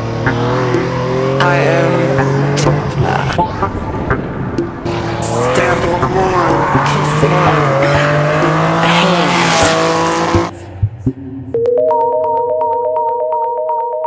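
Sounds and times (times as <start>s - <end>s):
race car engine passing: 0.0s - 11.5s.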